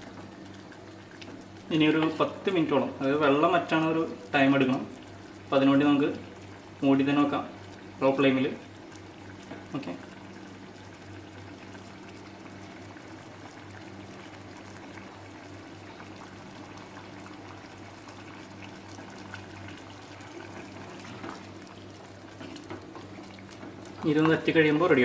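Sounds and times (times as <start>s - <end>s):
gravy bubbling and popping: 0.0s - 25.0s.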